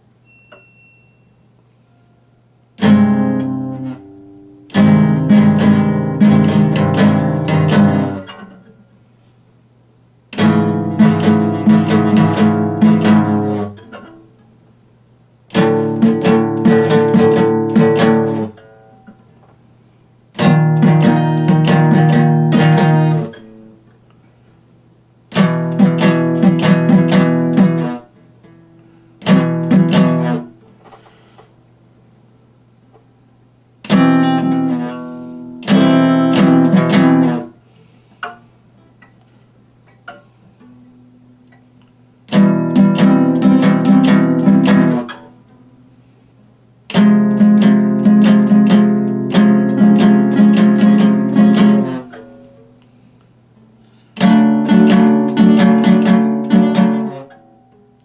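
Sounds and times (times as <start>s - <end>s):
acoustic guitar strumming chords: 0.0s - 8.9s, 10.3s - 14.4s, 15.5s - 19.7s, 20.3s - 24.0s, 25.3s - 31.8s, 33.0s - 52.8s, 53.6s - 58.0s.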